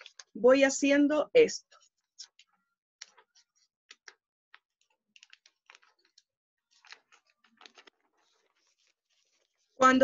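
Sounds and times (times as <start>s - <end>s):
newspaper crinkling: 0.0s - 0.4s, 2.2s - 10.0s.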